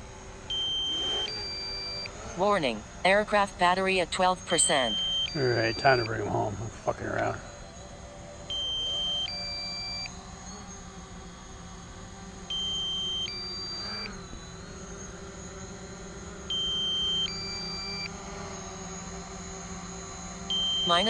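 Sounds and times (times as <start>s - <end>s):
low steady hum: 0.0s - 21.0s
electronic alarm beeps: 0.5s - 10.6s, 12.5s - 21.0s.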